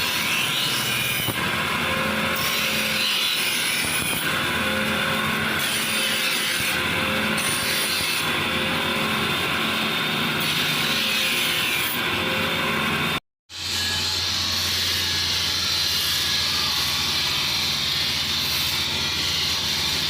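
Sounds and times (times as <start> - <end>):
electric grinder on steel: 0.0 - 20.0.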